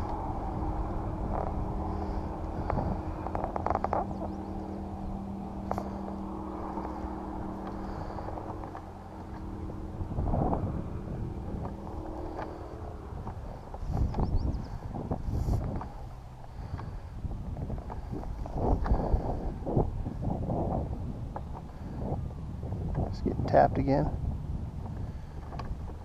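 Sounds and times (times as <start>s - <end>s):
boat motor humming: 0.0s - 23.2s, 23.8s - 26.0s
rumbling background: 0.0s - 26.0s.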